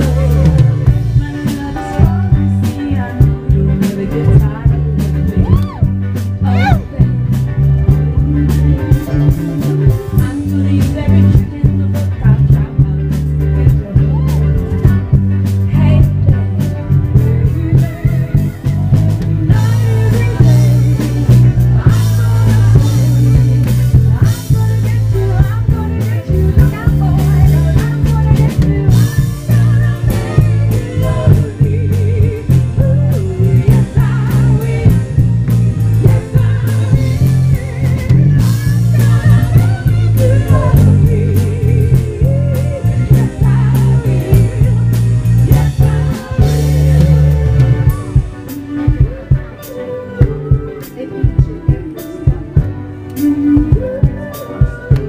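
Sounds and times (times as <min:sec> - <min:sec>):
female vocal group singing: 0:00.0 - 0:07.4, 0:08.0 - 0:15.0, 0:15.7 - 0:55.0
drum kit: 0:00.0 - 0:55.0
electric bass guitar: 0:00.0 - 0:55.0.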